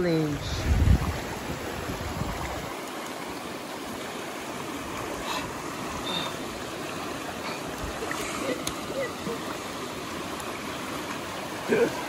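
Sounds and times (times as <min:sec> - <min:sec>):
creek rushing over rocks: 0:00.0 - 0:12.0.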